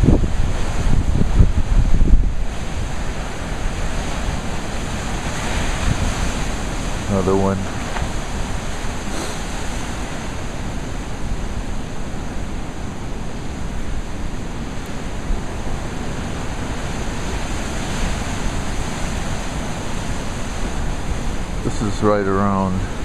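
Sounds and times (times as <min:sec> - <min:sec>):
surf breaking over rocks: 0:00.0 - 0:23.0
wind rumbling on microphone: 0:00.0 - 0:23.0.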